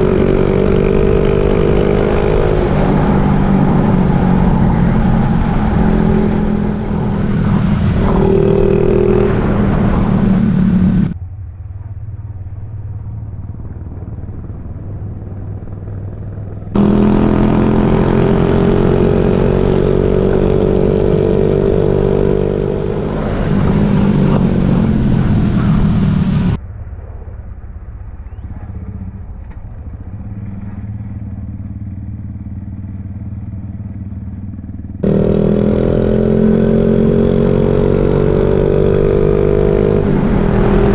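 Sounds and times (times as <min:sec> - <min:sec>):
motorcycle engine running: 0:00.0 - 0:26.6, 0:28.8 - 0:40.9.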